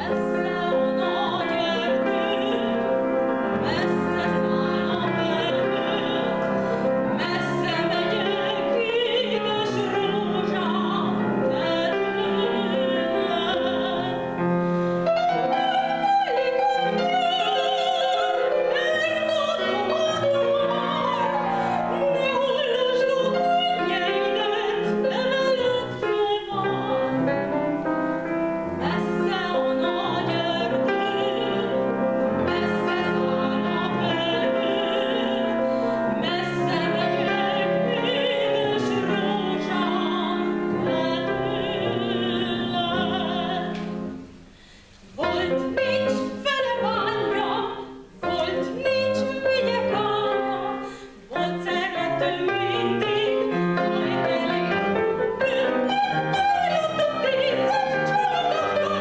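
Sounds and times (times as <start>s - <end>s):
woman singing classically: 0.0s - 14.4s, 15.0s - 27.5s, 28.6s - 44.1s, 45.1s - 59.0s
grand piano: 0.0s - 59.0s.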